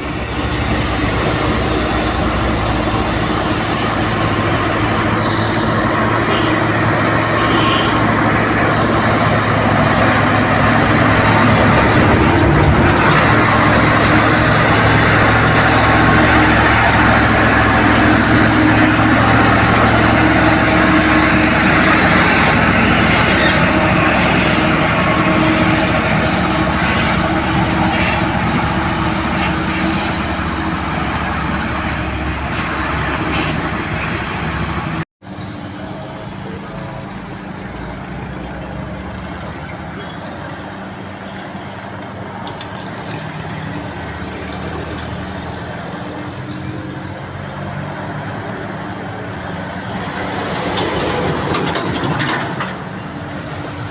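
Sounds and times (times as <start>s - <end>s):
road noise: 0.0s - 53.9s
truck engine running: 0.0s - 53.9s.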